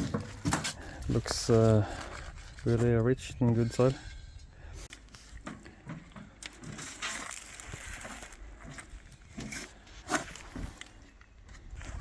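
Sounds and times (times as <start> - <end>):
soil crunching and scraping: 0.0 - 12.0.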